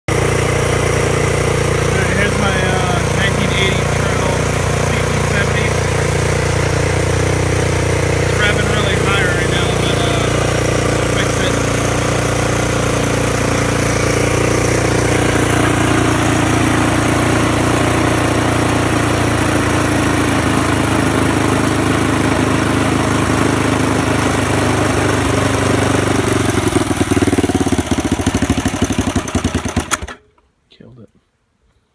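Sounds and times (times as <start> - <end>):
single-cylinder engine idling: 0.1 - 30.2.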